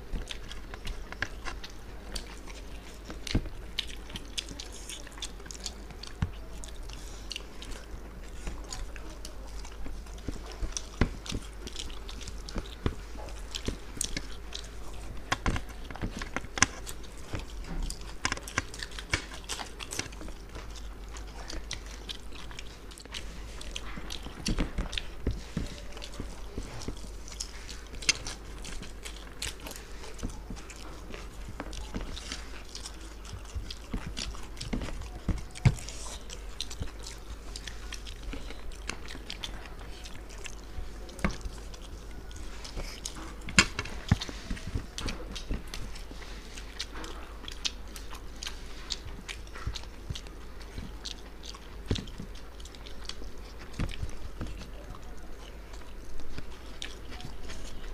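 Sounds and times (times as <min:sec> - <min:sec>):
people chewing food: 0:00.0 - 0:57.9.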